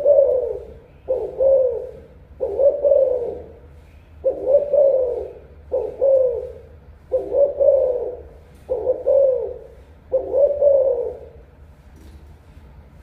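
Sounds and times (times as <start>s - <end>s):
dove cooing: 0.0s - 11.6s.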